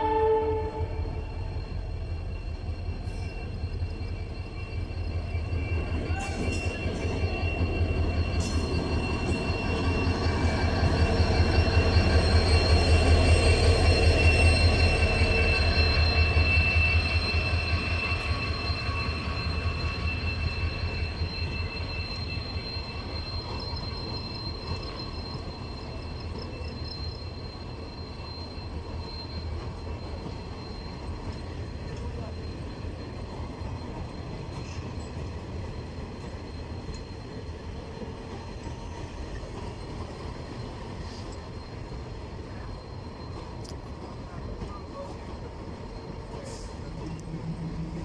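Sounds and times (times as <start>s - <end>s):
high wheel squeal: 0.0s - 48.0s
train coaches rumbling over rails: 0.0s - 48.0s.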